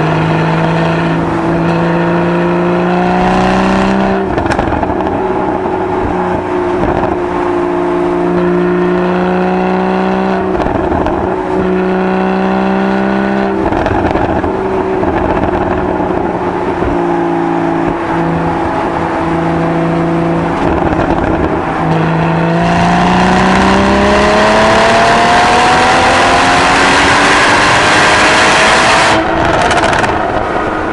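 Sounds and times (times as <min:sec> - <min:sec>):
sports car engine revving: 0:00.0 - 0:30.9.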